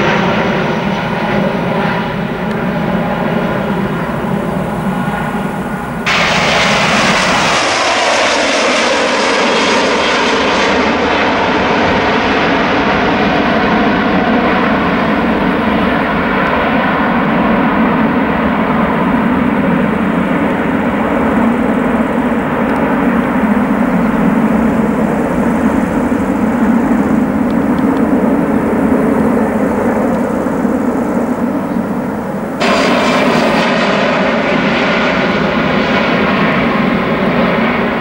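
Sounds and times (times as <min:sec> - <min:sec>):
jet airliner engines roaring: 0:00.0 - 0:38.0
jet engine whine: 0:00.0 - 0:38.0.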